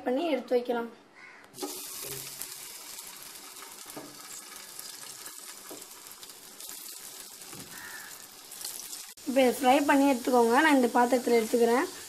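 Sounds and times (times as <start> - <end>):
potatoes sizzling in oil: 1.6 - 12.0.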